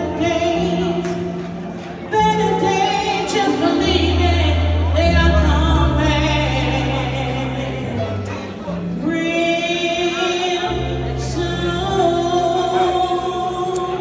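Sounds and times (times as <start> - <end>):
woman singing into a microphone: 0.0 - 14.0.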